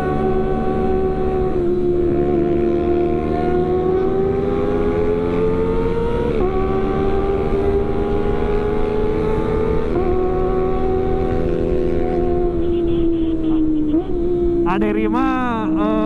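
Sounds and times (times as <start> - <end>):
motorcycle engine accelerating: 0.0 - 14.8.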